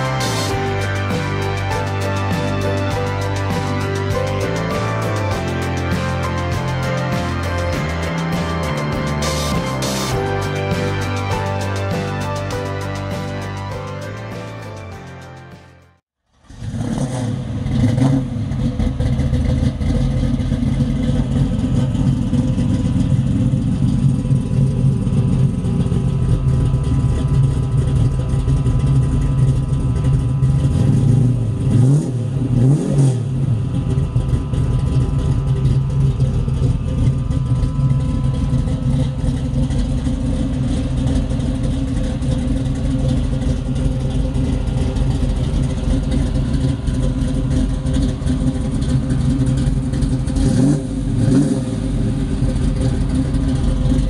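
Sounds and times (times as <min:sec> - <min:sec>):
car engine running through exhaust: 0:00.0 - 0:54.0
engine throttle blips: 0:00.0 - 0:54.0.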